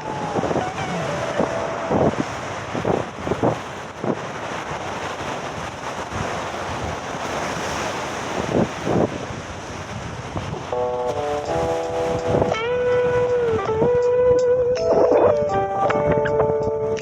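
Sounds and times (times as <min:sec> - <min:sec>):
ocean waves breaking: 0:00.0 - 0:15.1
wind buffeting microphone: 0:00.0 - 0:17.0.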